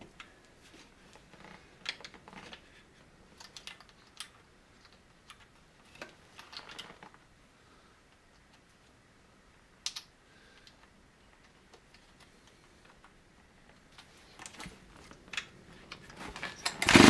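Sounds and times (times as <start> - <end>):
faint clicks and light taps: 0.1 - 7.2, 8.1 - 16.4.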